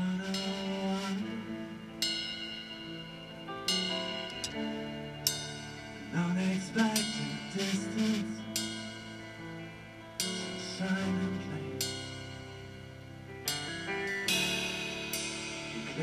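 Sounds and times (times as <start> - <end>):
cymbal crashes: 0.0 - 16.0
rock band playing: 0.0 - 16.0.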